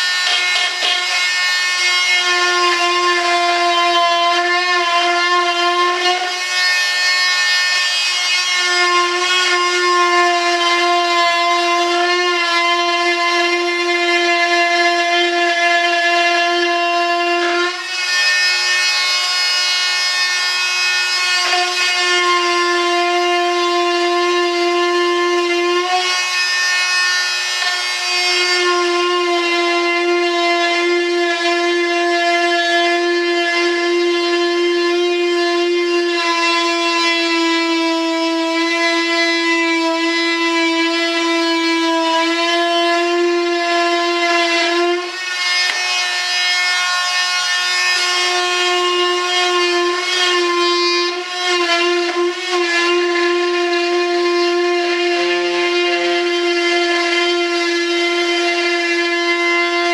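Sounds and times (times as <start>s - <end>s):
rotary tool whining: 0.0s - 13.9s, 17.5s - 34.6s, 38.7s - 59.9s.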